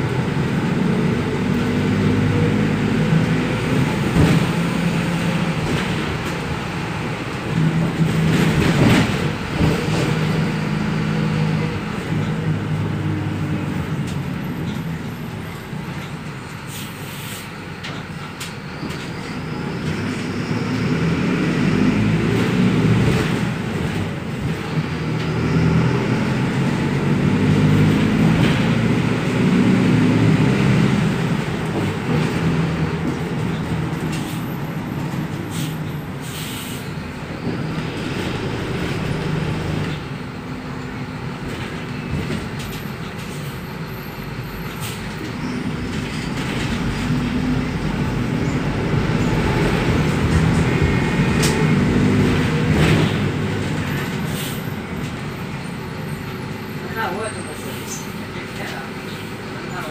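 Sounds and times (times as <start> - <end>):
diesel bus engine running: 0.0 - 59.9
clicks and rattles from bus: 3.0 - 20.3, 22.2 - 25.4, 26.4 - 36.8, 37.4 - 56.8.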